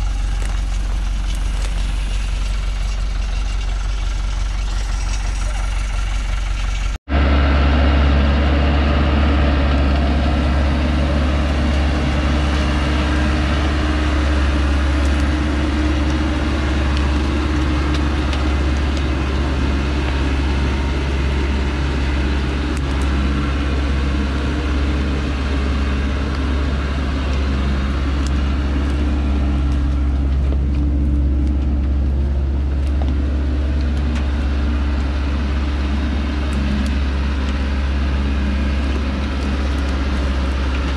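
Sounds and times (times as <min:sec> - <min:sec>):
truck engine droning under load: 0:00.0 - 0:40.9.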